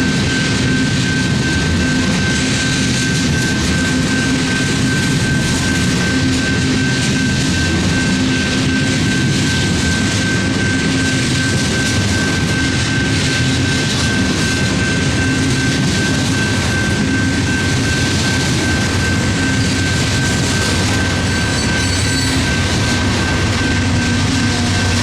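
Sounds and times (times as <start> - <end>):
high-pitched ringing: 0.0 - 25.0
low diesel drone: 0.0 - 25.0
train wheels on rails: 0.0 - 25.0.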